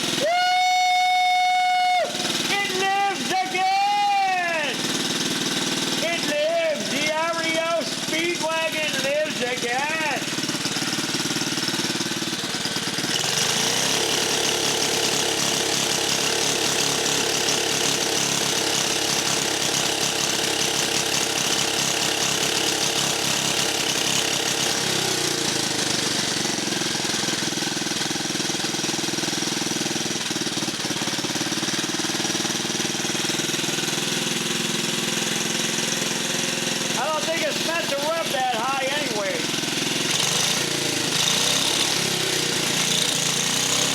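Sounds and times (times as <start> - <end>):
small gasoline engine running: 0.0 - 43.9.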